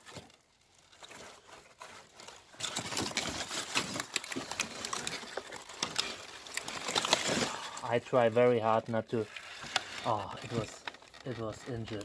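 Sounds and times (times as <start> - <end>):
packing material rustling and crackling: 0.0 - 12.0.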